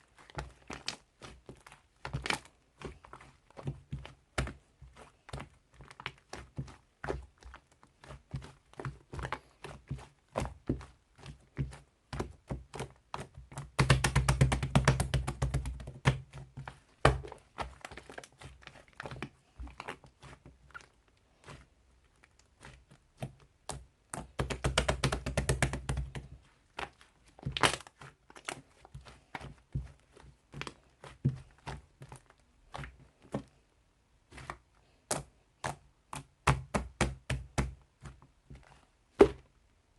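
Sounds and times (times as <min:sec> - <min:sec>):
slime squished by hand: 0:00.0 - 0:33.6.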